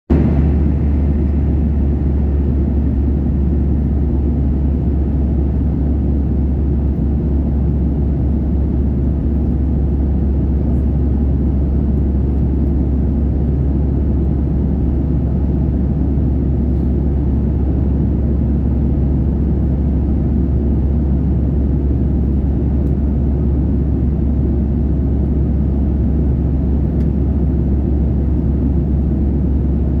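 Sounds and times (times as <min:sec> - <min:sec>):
airplane engines rumbling in flight: 0:00.1 - 0:30.0.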